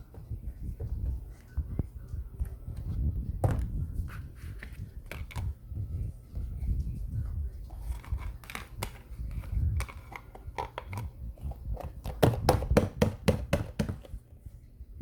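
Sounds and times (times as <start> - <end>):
hand handling noise: 0.0 - 14.6.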